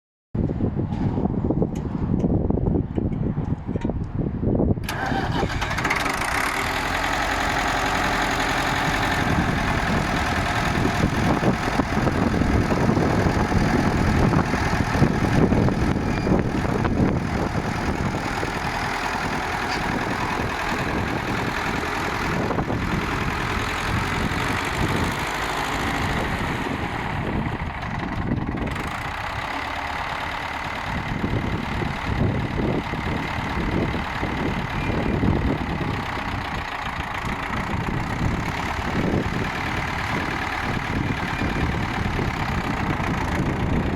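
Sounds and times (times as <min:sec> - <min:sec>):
tractor engine running: 0:04.8 - 0:43.9.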